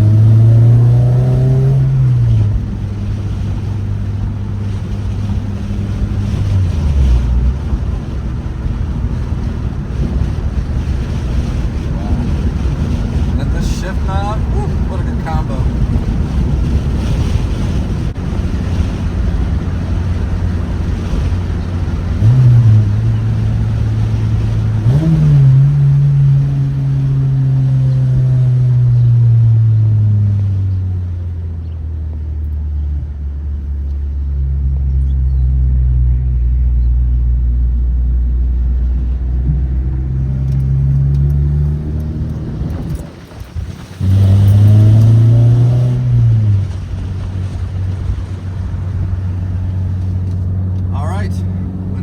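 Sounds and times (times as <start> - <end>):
car engine revving while driving: 0.0 - 52.0.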